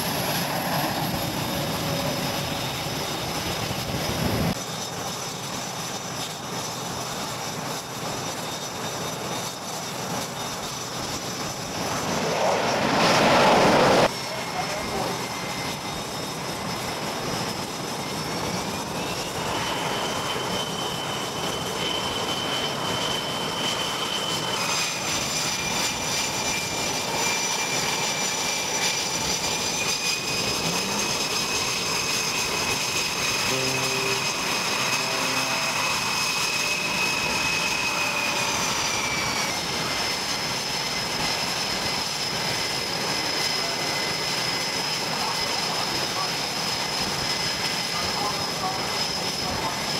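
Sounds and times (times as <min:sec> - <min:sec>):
aircraft engines whining: 0:00.0 - 0:49.9.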